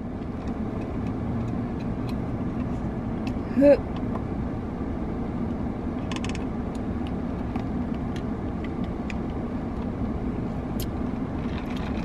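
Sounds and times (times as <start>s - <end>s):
low hum inside a car: 0.0s - 12.0s.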